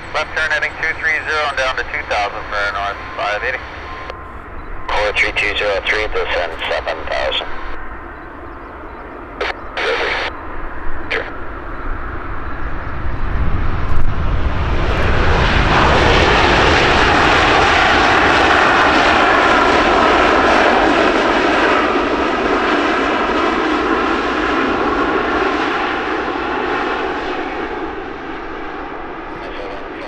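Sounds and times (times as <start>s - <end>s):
airliner engines passing: 0.0s - 30.0s.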